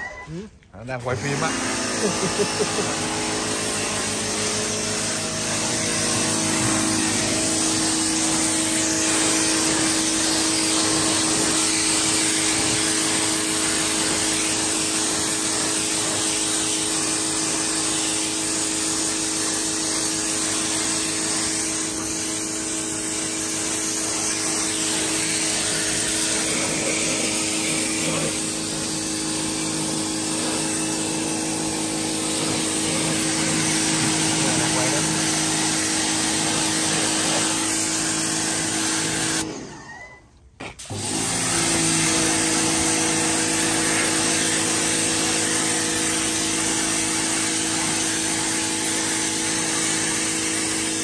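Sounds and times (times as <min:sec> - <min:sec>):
pressure washer motor hum: 0:00.8 - 0:39.6, 0:40.8 - 0:51.0
water spray hissing on concrete: 0:00.9 - 0:39.4, 0:40.9 - 0:51.0.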